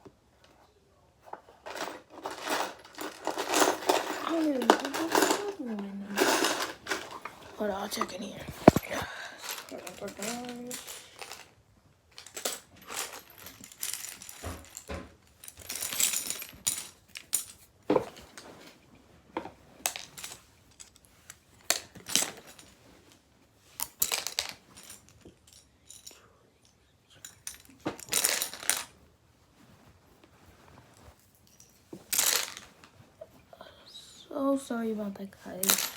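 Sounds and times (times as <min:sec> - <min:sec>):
small hard parts clattering: 0:01.2 - 0:18.7, 0:19.4 - 0:29.0, 0:30.9 - 0:33.0, 0:35.4 - 0:35.9.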